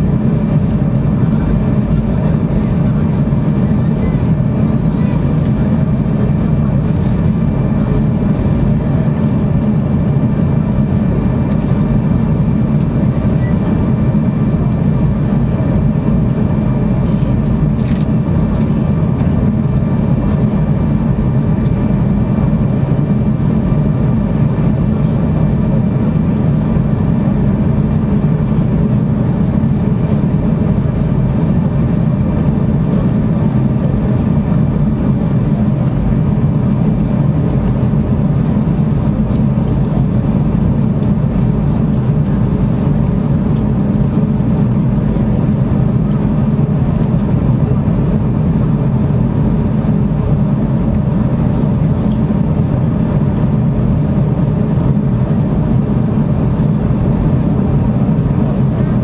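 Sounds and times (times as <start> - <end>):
faint steady whine: 0.0 - 59.0
gas turbine drone: 0.0 - 59.0.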